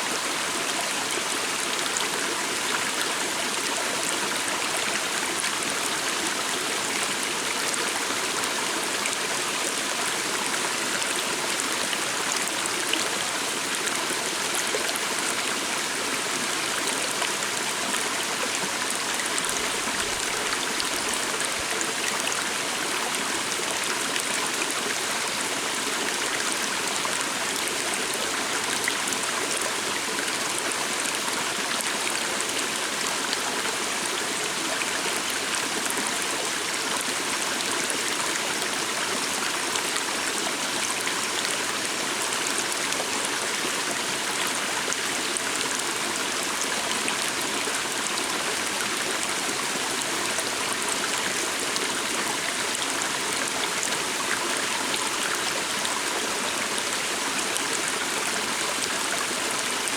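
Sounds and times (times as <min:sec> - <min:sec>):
small stream babbling: 0:00.0 - 0:59.9.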